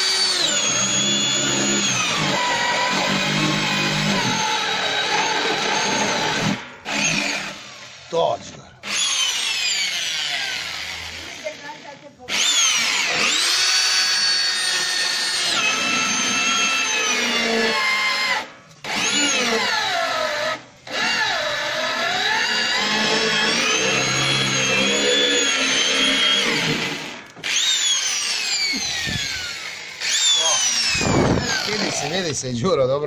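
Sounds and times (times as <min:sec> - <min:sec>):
electric drill cutting steel: 0:00.0 - 0:08.2, 0:08.8 - 0:32.4.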